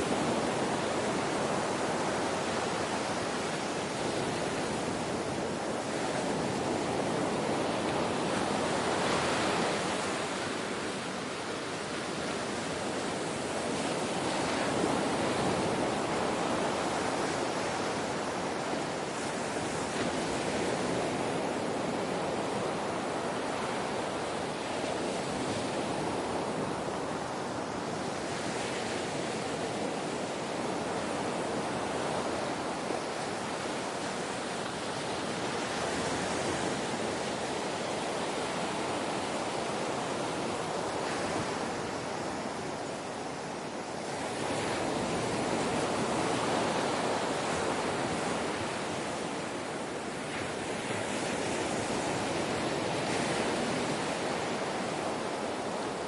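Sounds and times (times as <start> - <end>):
ocean waves washing ashore: 0.0 - 56.0.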